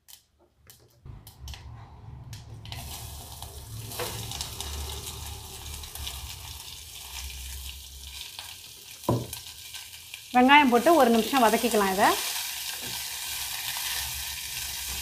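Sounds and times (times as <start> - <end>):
onions sizzling in hot oil: 2.6 - 15.0.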